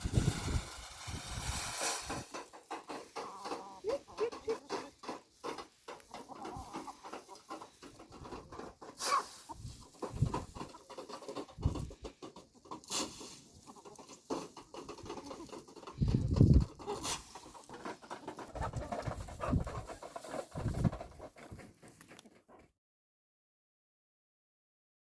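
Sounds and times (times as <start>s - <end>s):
chickens clucking: 0.1s - 22.6s.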